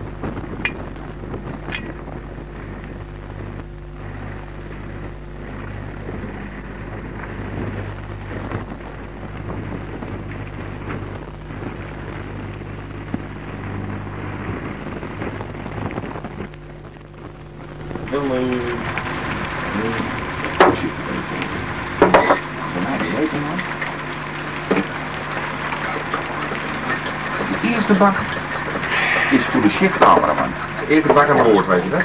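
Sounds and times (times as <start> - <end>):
crackling rumbling noise: 0.0 - 32.0
steady low hum: 0.0 - 32.0.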